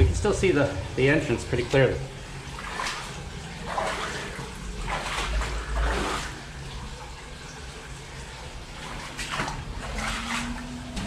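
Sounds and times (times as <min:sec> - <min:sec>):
water running in a tunnel: 0:00.0 - 0:11.0.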